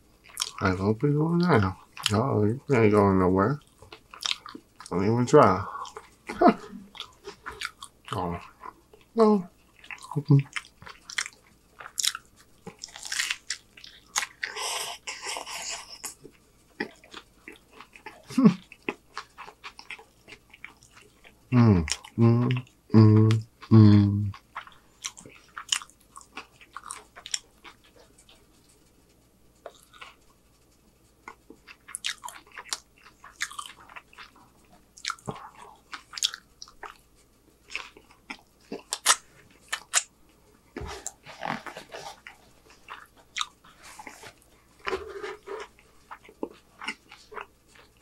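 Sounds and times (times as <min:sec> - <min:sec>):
mouth chewing food: 0:00.2 - 0:02.3, 0:02.9 - 0:40.1, 0:40.7 - 0:48.0.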